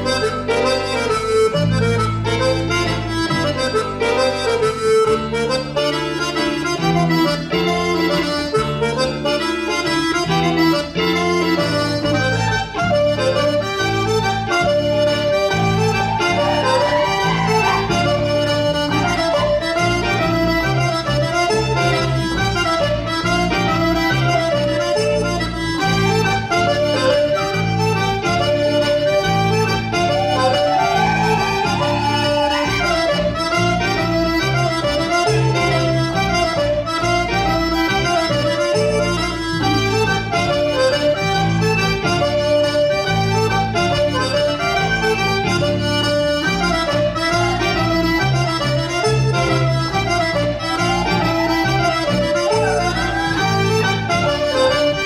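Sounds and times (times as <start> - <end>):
accordion dance tune: 0.0 - 55.0.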